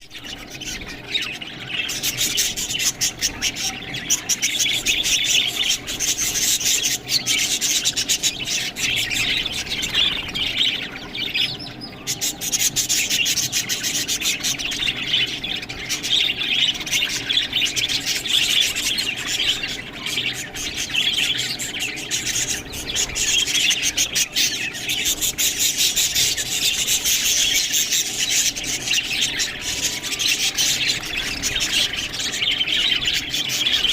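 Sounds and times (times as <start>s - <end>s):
budgerigars chattering and chirping: 0.0s - 33.9s.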